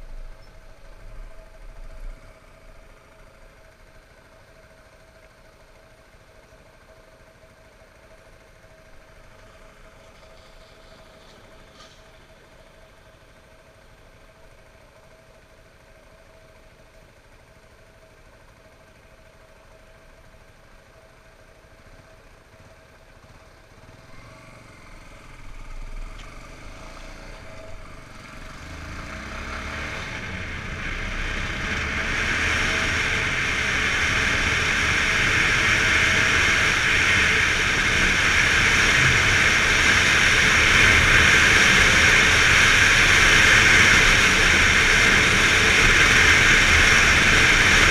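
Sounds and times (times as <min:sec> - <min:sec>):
motorcycle engine: 0:00.0 - 0:47.9.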